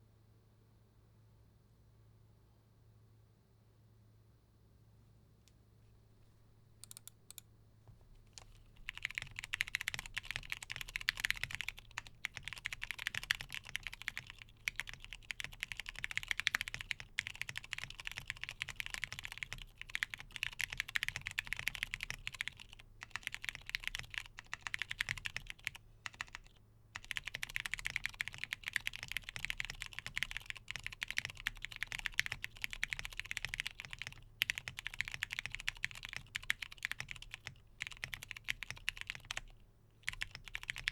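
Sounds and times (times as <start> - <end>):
typing on mechanical keyboard: 6.8 - 7.5, 8.3 - 40.9.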